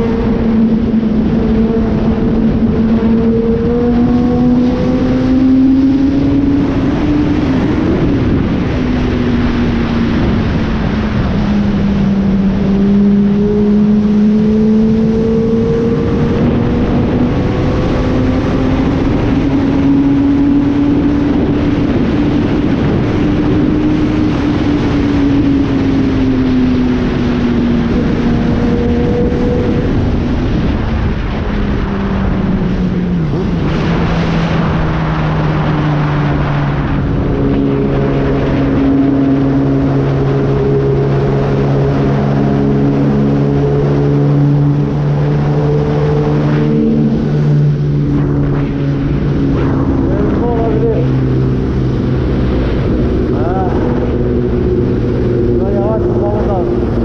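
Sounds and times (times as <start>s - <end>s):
wind noise: 0.0s - 57.0s.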